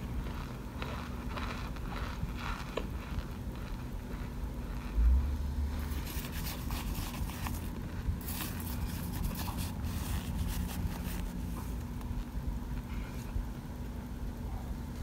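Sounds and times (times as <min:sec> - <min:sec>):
plastic spoon scraping and crunching: 0:00.0 - 0:12.3
steady low hum: 0:00.0 - 0:15.0.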